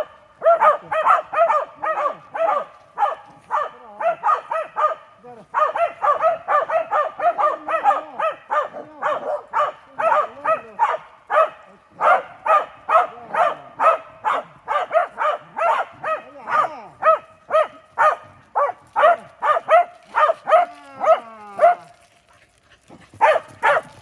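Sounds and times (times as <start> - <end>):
dog barking rapidly: 0.0 - 21.9, 23.1 - 24.0.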